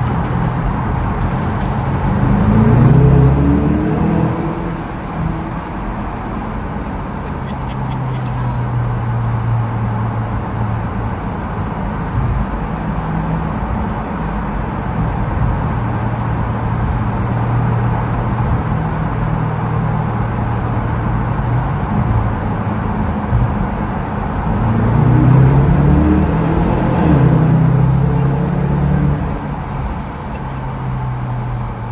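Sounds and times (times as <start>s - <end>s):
road noise: 0.0s - 31.9s.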